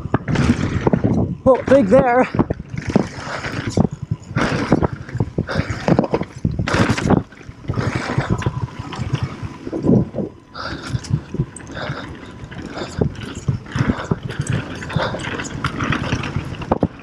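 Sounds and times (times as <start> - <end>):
bike knocking and rattling: 0.0 - 17.0
bike tyres rolling over dirt and stones: 0.0 - 17.0
wind noise on microphone: 0.0 - 17.0.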